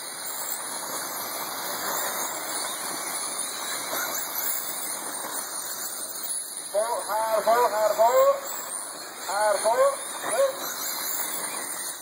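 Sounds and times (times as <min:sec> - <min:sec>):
rc car motors whining: 0:00.0 - 0:12.0
tires hissing on dirt track: 0:00.0 - 0:12.0.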